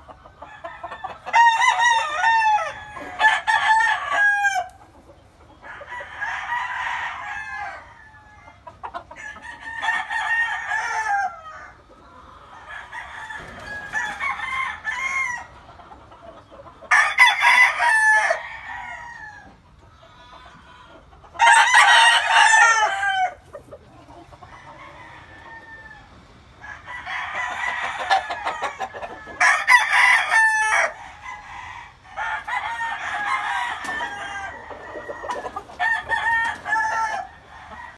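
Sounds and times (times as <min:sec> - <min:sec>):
roosters crowing: 0:00.0 - 0:37.9.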